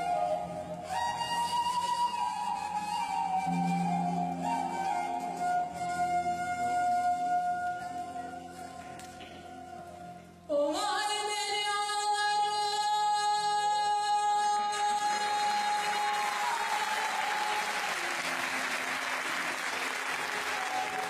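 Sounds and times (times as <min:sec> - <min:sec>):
song with held high note: 0:00.0 - 0:21.0.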